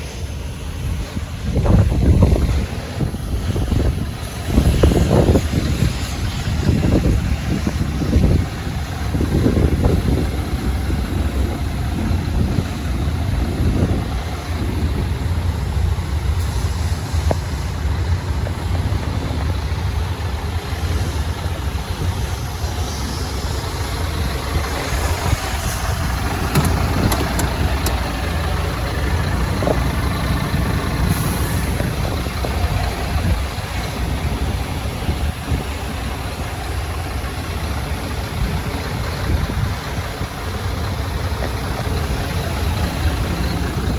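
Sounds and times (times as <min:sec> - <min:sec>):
diesel lorry idling: 0:00.0 - 0:43.9.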